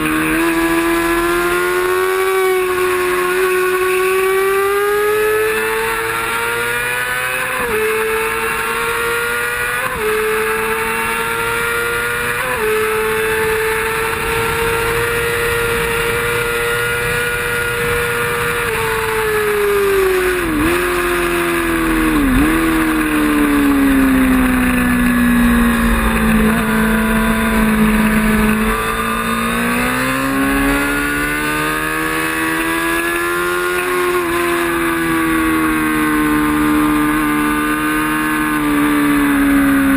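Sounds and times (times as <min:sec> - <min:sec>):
race motorcycle engine revving: 0:00.0 - 0:39.9.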